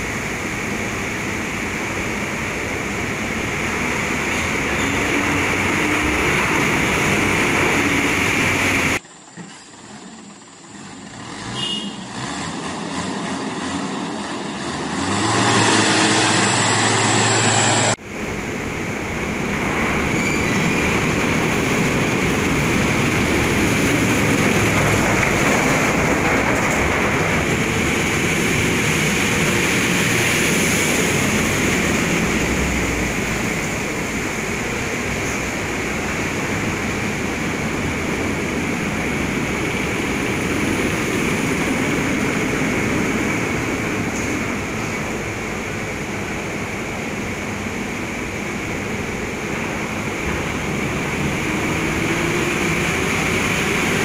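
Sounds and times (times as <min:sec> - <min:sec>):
vehicle engines running: 0:00.0 - 0:54.0.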